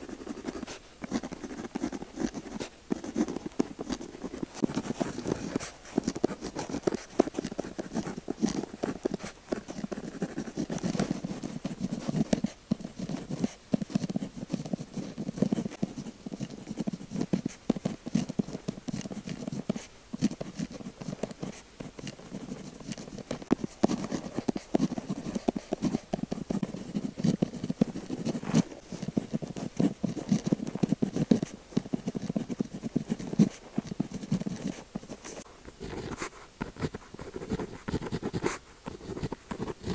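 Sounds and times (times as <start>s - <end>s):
pen scratching on paper: 0.0s - 39.9s.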